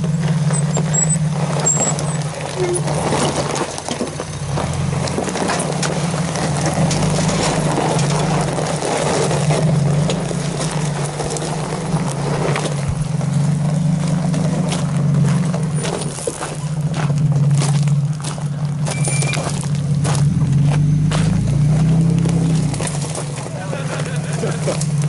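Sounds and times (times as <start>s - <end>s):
pickup engine running: 0.0s - 25.0s
tyres crunching over gravel: 0.0s - 25.0s.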